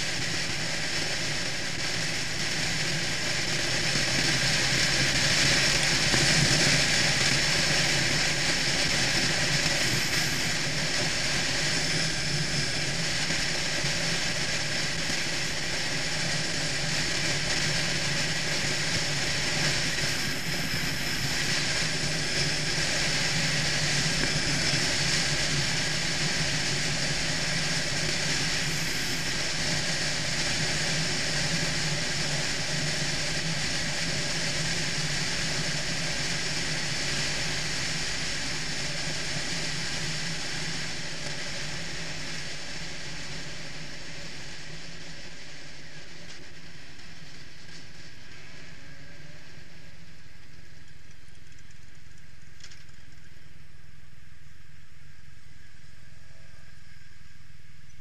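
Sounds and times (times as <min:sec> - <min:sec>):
wind rushing over microphone: 0:00.0 - 0:52.0
motorcycle engine hum: 0:00.0 - 0:58.0.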